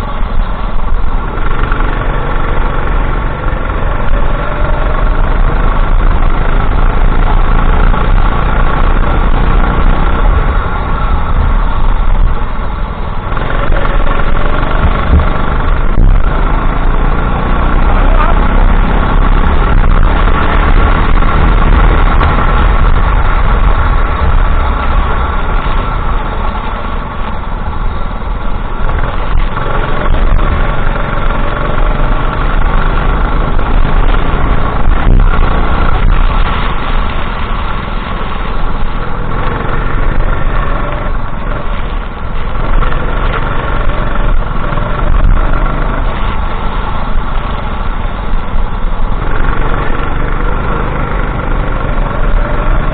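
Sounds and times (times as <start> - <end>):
kart engine running: 0.0 - 52.9.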